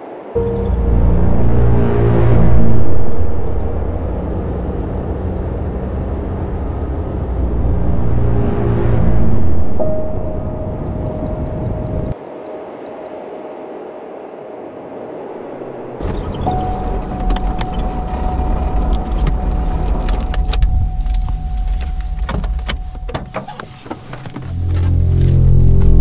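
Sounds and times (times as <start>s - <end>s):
car engine rumble: 0.4s - 12.2s, 14.3s - 26.0s.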